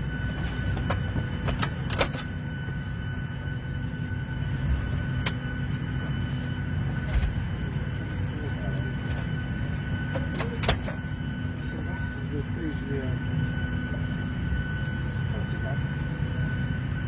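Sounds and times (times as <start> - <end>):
aircraft systems hum: 0.0 - 17.0
airliner cabin rumble: 0.0 - 17.0.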